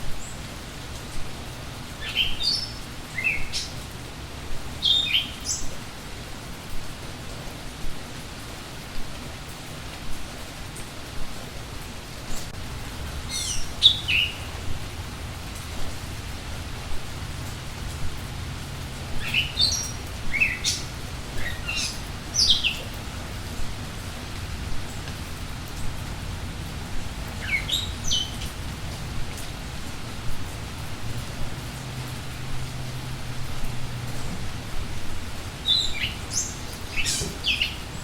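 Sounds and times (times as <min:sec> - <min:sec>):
rain falling: 0:00.0 - 0:38.0.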